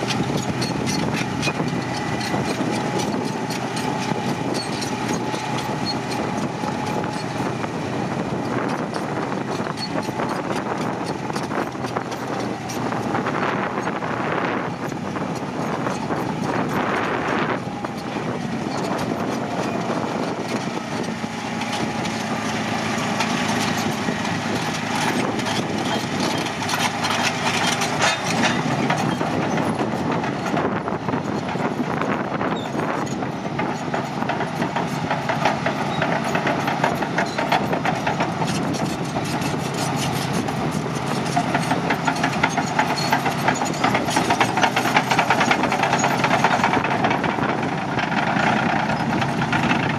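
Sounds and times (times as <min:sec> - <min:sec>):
bulldozer diesel engine running: 0:00.0 - 0:49.9
rapid clatter of steel tracks: 0:00.0 - 0:49.9.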